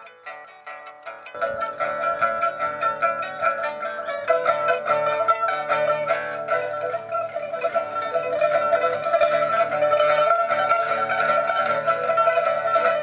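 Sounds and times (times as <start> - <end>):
plucked lute notes: 0.0 - 13.0.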